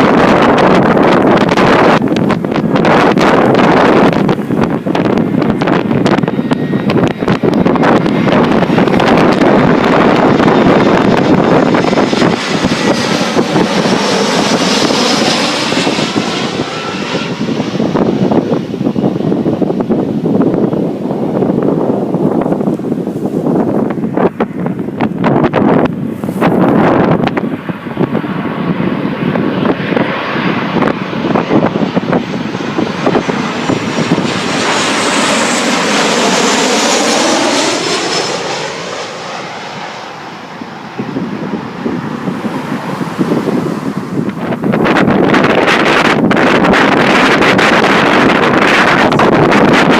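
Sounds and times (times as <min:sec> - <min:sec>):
airliner engines passing: 0:00.0 - 0:49.9
wind buffeting microphone: 0:00.0 - 0:49.9.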